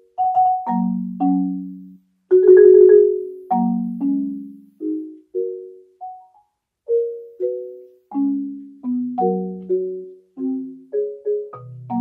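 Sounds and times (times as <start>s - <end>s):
solo marimba: 0.0s - 12.0s.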